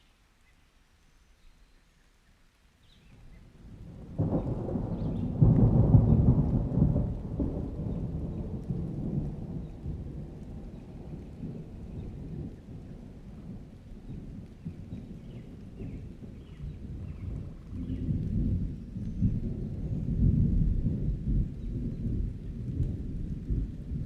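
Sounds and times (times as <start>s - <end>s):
rain falling: 0.1s - 24.0s
thunder rumbling: 3.3s - 24.0s.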